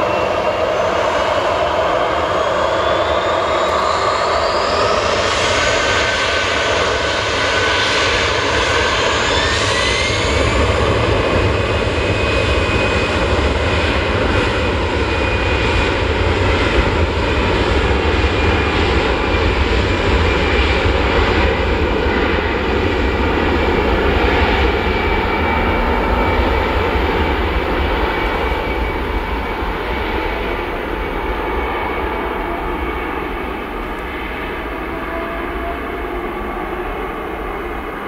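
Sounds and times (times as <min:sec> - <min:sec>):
jet engines at takeoff thrust: 0:00.0 - 0:38.0.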